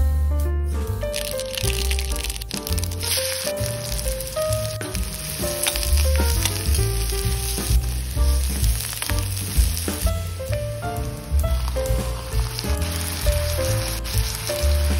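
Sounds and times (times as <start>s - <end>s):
background music with bass: 0.0s - 14.9s
onions sizzling in hot oil: 1.1s - 14.9s
metal spatula stirring: 1.2s - 10.0s, 11.4s - 14.9s.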